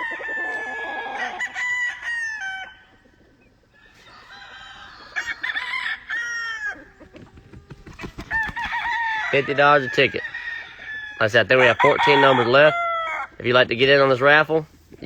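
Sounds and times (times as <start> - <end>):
roosters crowing: 0.0 - 14.7.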